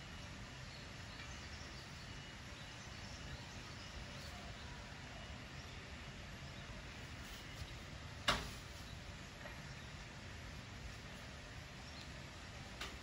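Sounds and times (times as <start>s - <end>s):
room noise with faint hiss: 0.0s - 13.0s.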